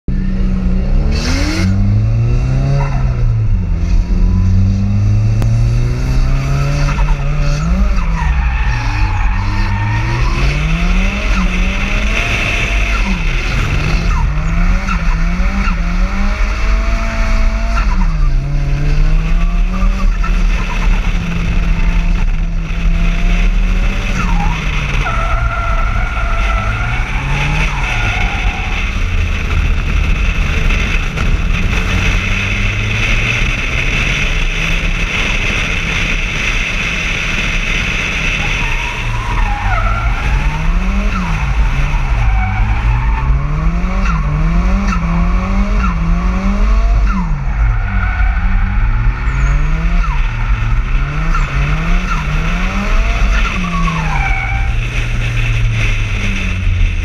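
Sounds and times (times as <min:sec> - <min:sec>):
car engine revving hard: 0:00.5 - 0:57.0.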